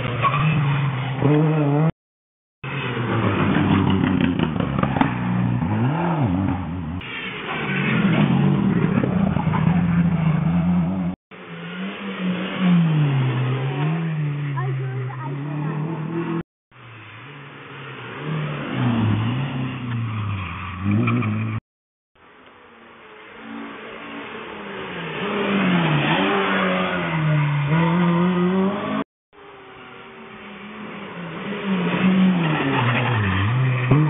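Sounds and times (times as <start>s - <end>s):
rally cars passing at speed: 2.6s - 21.6s, 23.4s - 29.0s, 29.6s - 34.0s.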